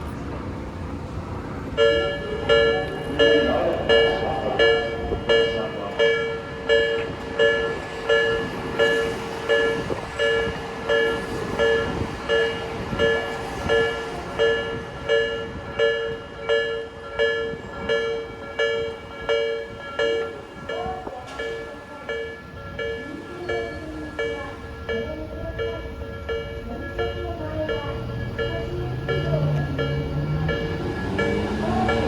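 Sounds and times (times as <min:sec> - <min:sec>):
train running past: 0:00.0 - 0:32.0
level crossing warning bell: 0:01.0 - 0:32.0.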